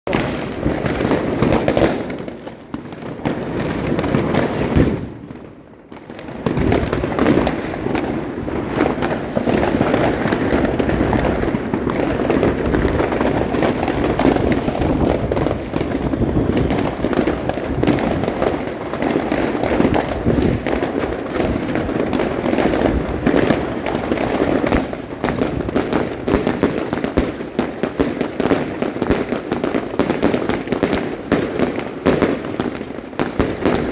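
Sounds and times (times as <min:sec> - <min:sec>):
fireworks shots and bursts: 0:00.1 - 0:33.9.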